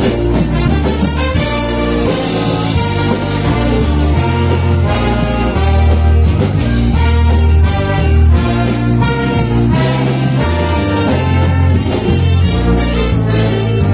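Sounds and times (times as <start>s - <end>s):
brass: 0.0s - 13.9s
electronic keyboard: 0.0s - 13.9s
repeating bass line: 0.0s - 13.9s
saxophones: 0.0s - 13.9s.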